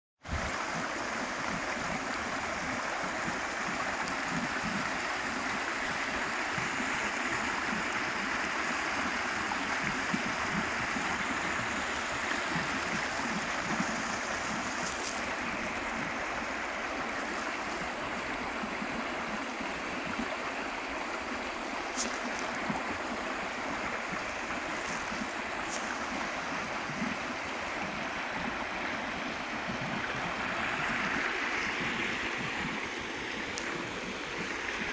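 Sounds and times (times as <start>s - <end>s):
stream flowing over stones: 0.2s - 34.9s.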